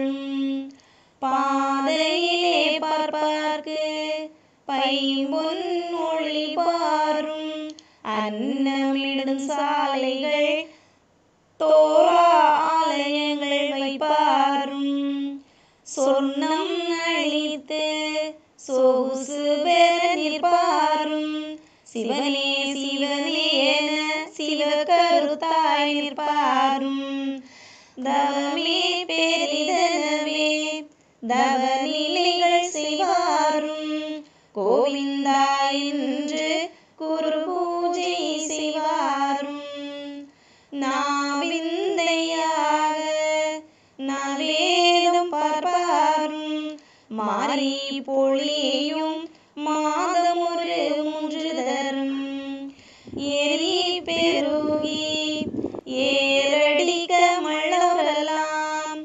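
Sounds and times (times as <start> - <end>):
woman singing: 0.0 - 10.7, 11.6 - 59.0.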